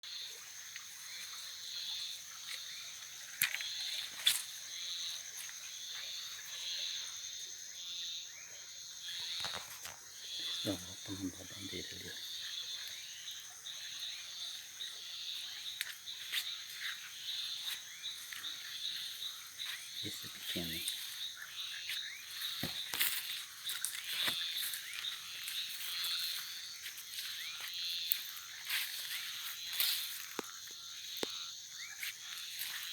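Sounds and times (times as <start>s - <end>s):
insects droning: 0.0s - 32.9s
pulsing high insect call: 0.0s - 32.9s.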